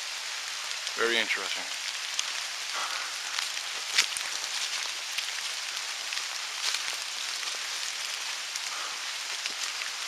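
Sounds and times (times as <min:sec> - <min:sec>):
raindrop ticks: 0:00.0 - 0:10.0
steady rain falling: 0:00.0 - 0:10.0.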